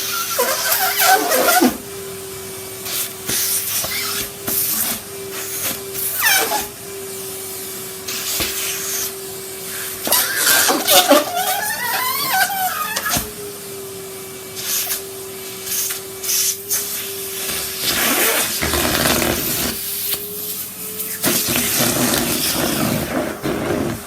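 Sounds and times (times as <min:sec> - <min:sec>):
vacuum cleaner motor whine: 0:00.0 - 0:24.0.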